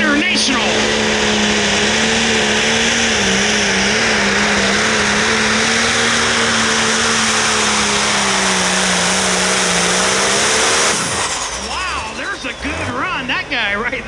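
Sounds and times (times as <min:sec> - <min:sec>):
tractor diesel engine at full throttle: 0:00.0 - 0:14.0.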